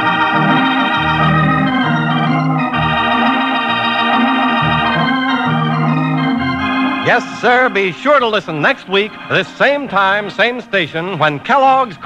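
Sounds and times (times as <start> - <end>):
organ music: 0.0 - 12.0.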